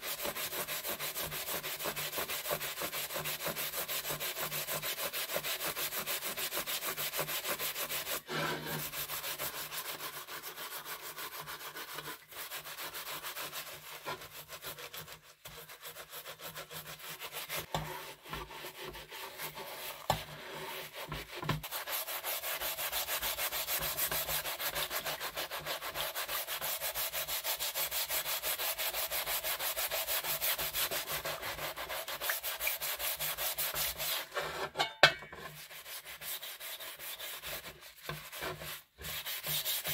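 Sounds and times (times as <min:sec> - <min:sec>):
brush scrubbing metal in water: 0:00.0 - 0:39.9.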